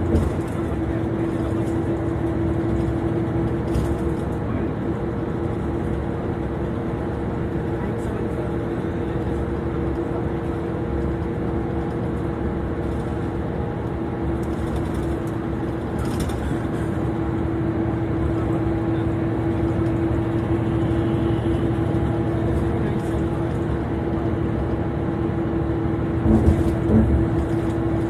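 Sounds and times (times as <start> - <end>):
engine and tyres rumbling: 0.0 - 28.0.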